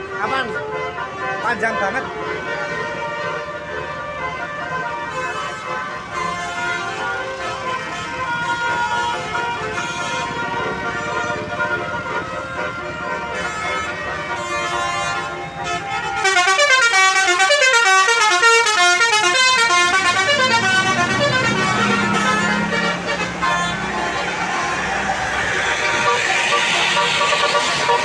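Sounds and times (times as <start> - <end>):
musical bus horn tune: 0.0 - 28.0
bus engine running: 2.6 - 28.0.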